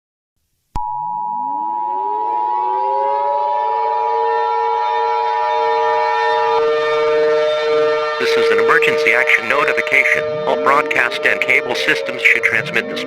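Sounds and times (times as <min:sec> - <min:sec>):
civil defense siren wailing: 0:01.4 - 0:13.0.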